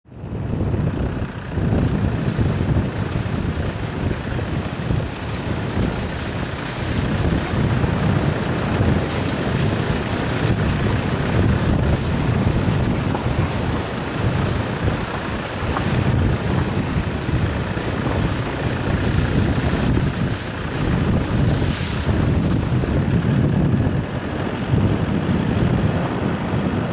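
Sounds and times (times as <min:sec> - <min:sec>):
vehicle rumble on rough road: 0:00.1 - 0:26.9
wind buffeting microphone: 0:00.1 - 0:26.9.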